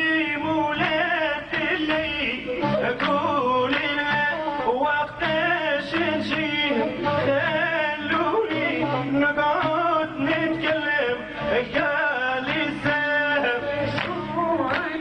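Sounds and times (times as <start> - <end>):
instrumental accompaniment: 0.0 - 15.0
man singing ornamented melody: 0.0 - 15.0.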